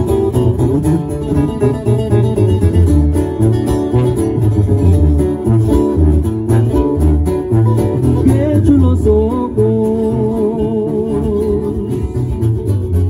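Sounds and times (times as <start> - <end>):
acoustic guitars strumming: 0.0 - 13.0
sousaphone bass line: 0.0 - 13.0.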